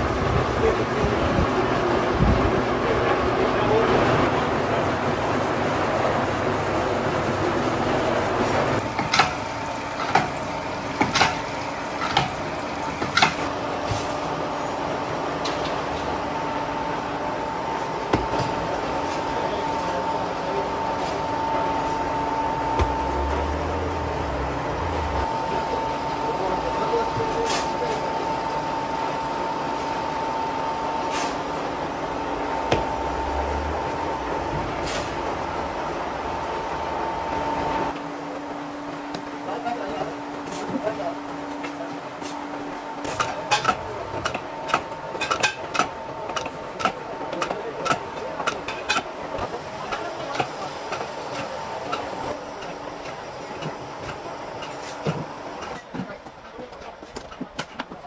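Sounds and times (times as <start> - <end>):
workshop machinery humming: 0.0 - 58.0.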